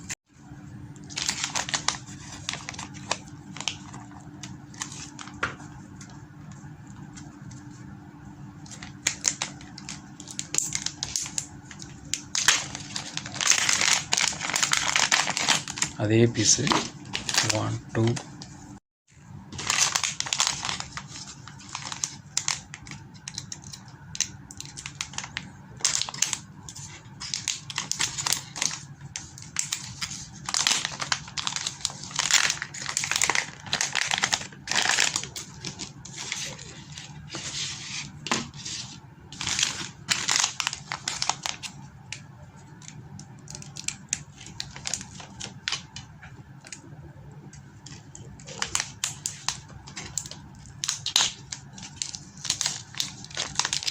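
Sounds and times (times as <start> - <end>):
low steady hum: 0.0 - 53.9
plastic packaging crinkling: 1.0 - 7.7, 8.6 - 18.5, 19.4 - 46.9, 47.8 - 53.9.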